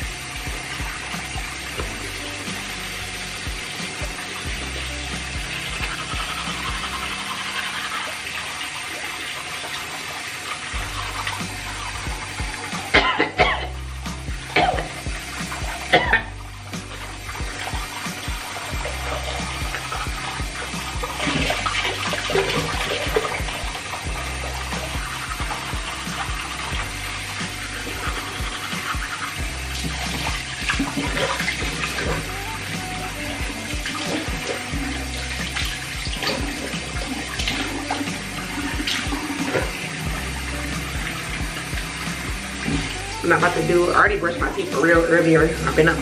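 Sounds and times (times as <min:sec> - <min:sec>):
water running: 0:00.0 - 0:46.0.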